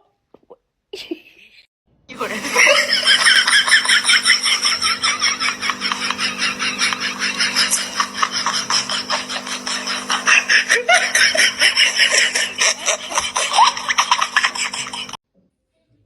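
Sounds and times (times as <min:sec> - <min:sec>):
person laughing hard: 0:02.1 - 0:15.2
steady low hum: 0:02.1 - 0:15.2.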